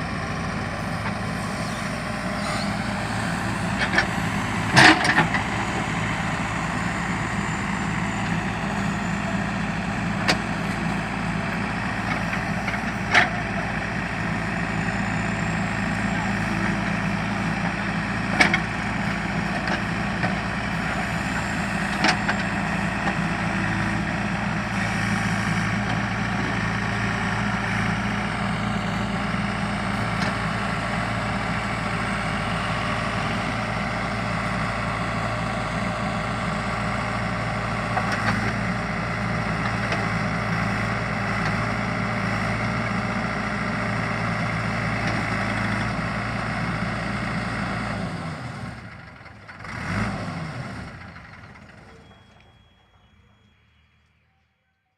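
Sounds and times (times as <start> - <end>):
diesel engine running: 0.0 - 54.4.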